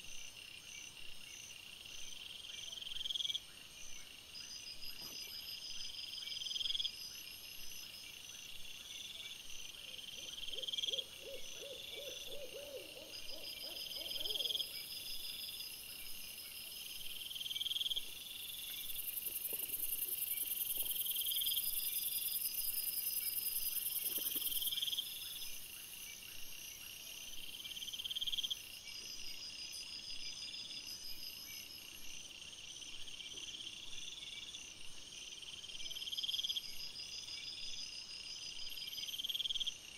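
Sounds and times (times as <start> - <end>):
night insects trilling: 4.4 - 39.9.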